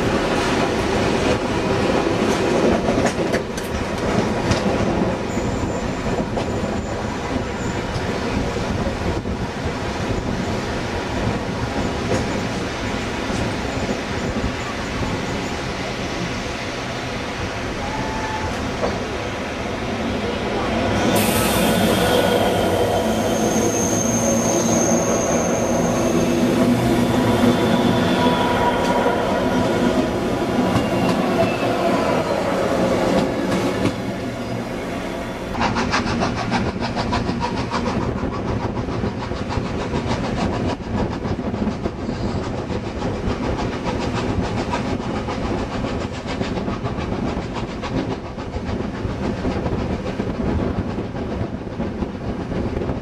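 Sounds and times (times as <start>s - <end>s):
train wheels clattering over rails: 0.0s - 16.9s, 20.9s - 34.6s, 35.5s - 53.0s
train droning hum: 0.0s - 53.0s.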